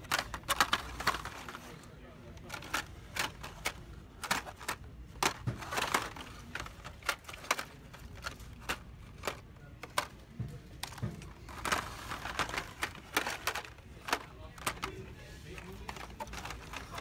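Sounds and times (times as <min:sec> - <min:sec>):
plastic packages clacking: 0:00.0 - 0:17.0.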